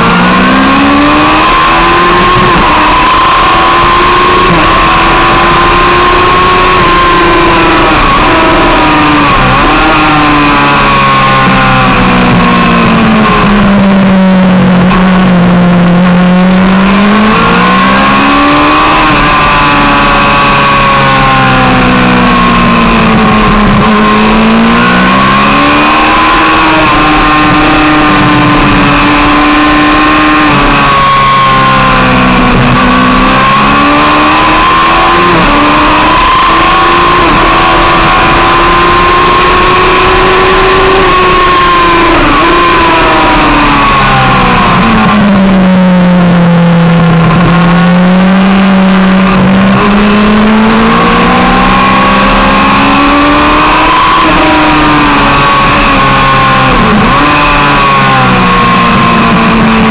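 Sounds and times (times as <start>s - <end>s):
motorcycle engine at racing speed: 0.0s - 59.9s
wind and road noise: 0.0s - 59.9s.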